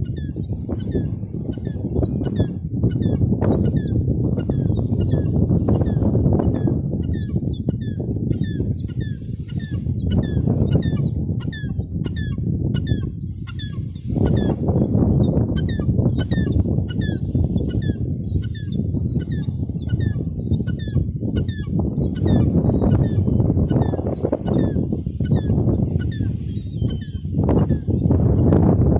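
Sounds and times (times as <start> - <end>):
gulls calling: 0.0 - 28.6.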